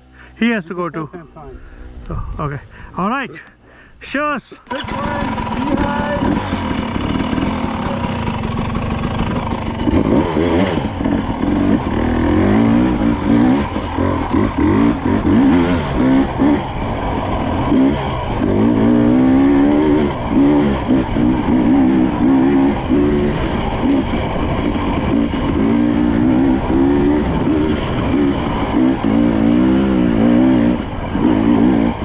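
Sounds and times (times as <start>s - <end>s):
dirt bike engine revving: 4.7s - 32.0s.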